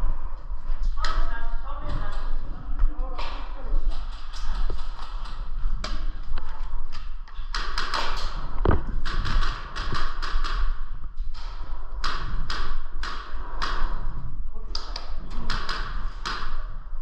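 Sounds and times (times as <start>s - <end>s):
sharp taps and clicks: 1.0s - 14.1s, 14.7s - 16.6s.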